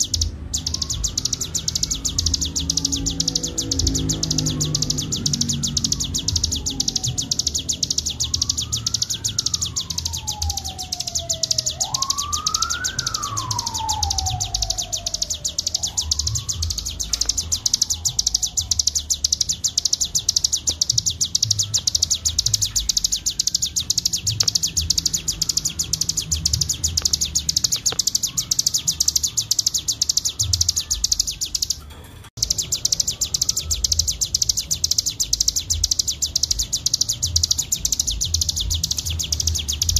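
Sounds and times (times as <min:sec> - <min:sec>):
songbird rapid high trill: 0:00.0 - 0:31.8, 0:32.4 - 0:39.9.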